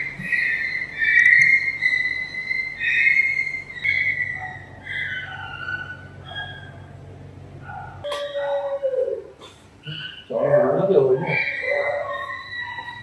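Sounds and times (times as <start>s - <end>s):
young monkey crying: 0.0s - 6.9s, 8.0s - 13.0s.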